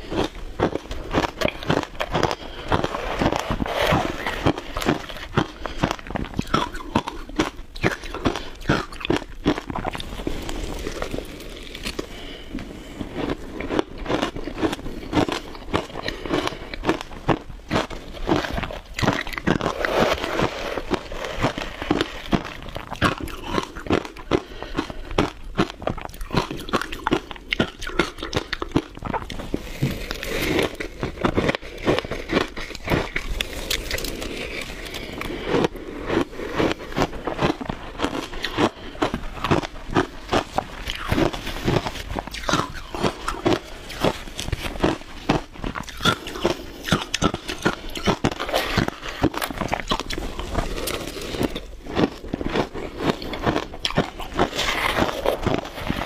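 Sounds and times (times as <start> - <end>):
crunching shaved ice: 0.0 - 56.0.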